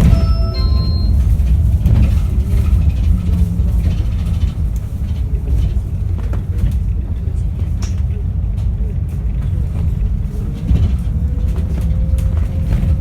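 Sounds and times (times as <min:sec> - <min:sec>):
bus road and body rumble: 0:00.0 - 0:13.0.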